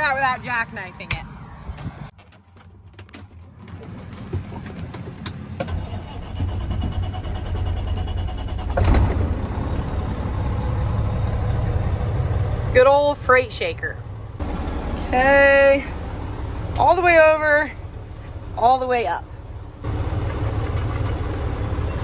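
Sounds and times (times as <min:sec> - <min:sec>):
diesel truck engine starting: 0:03.6 - 0:22.0.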